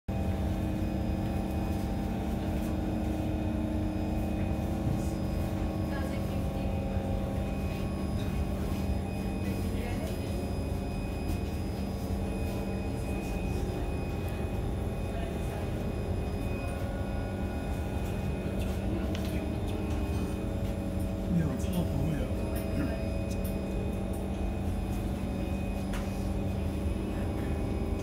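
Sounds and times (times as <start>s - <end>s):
train motors electrical hum: 0.1s - 28.0s.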